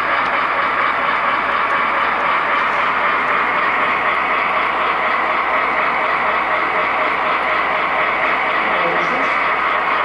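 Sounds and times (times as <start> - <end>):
model train running on rails: 0.0 - 10.0.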